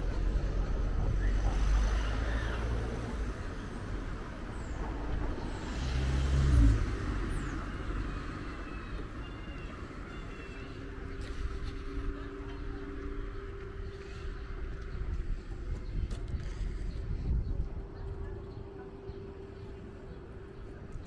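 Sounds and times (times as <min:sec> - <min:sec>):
vehicle engine rumble passing: 0:00.0 - 0:21.0.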